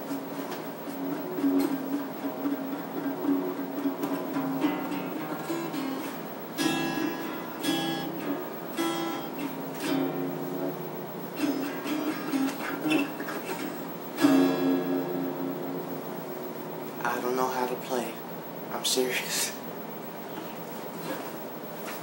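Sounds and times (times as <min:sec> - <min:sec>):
acoustic guitar picking and strumming: 0:00.0 - 0:18.1.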